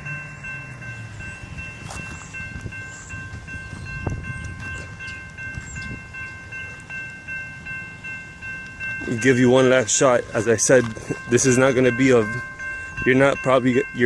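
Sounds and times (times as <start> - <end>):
electronic crossing bell ringing: 0.0 - 14.0.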